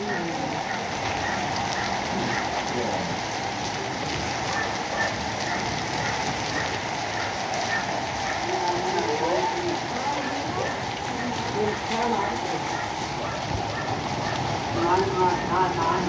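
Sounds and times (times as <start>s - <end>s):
hail and rain on water: 0.0s - 16.0s.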